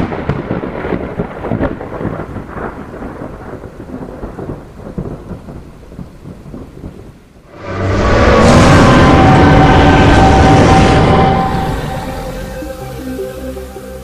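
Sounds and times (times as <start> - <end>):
thunder rumble with sharp cracks: 0.0 - 13.3.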